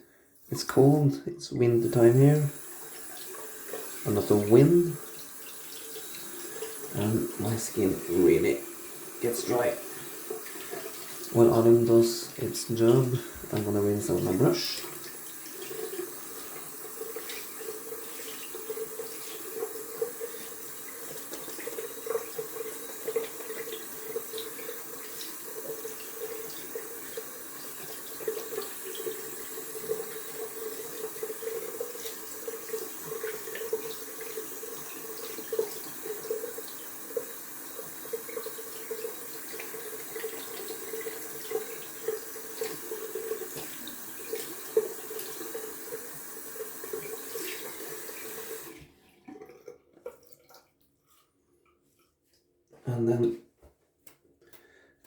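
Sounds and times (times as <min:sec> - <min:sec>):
tap water running into sink: 0:01.7 - 0:51.0
water splashing and dripping: 0:01.9 - 0:51.3.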